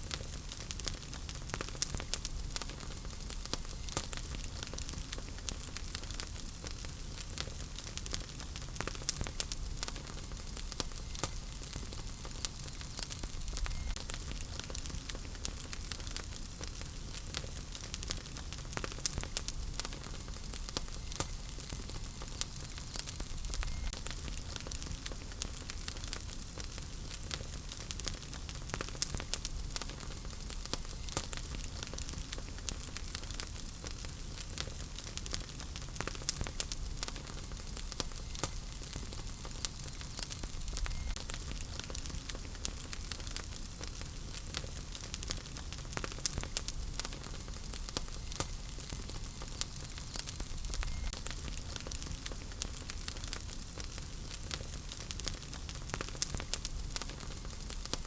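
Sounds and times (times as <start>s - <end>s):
crackling and popping logs: 0.0s - 58.0s
low rumble of flames: 0.0s - 58.0s.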